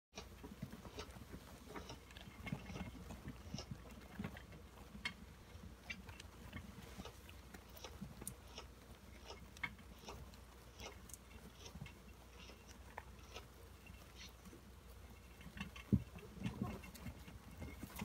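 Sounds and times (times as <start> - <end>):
hamsters scrabbling in bedding: 0.2 - 18.0.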